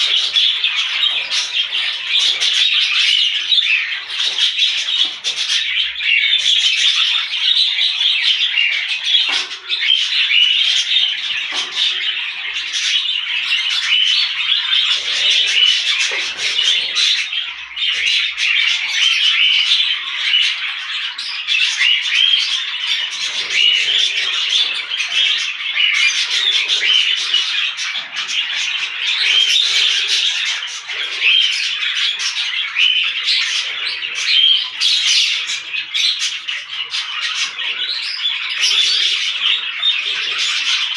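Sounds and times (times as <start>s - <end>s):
parrots chirping and chattering: 0.0s - 40.9s.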